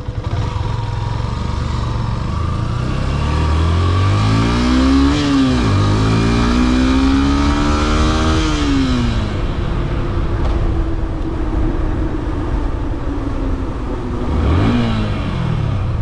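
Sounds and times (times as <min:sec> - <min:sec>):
low wind rumble: 0:00.0 - 0:16.0
motorcycle engine accelerating: 0:00.0 - 0:16.0.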